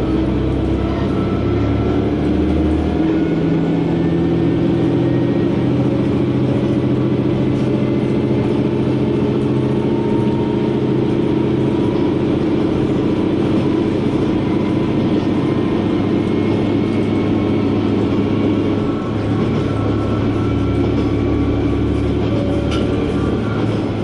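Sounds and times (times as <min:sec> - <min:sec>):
railcar engine drone: 0:00.0 - 0:24.0.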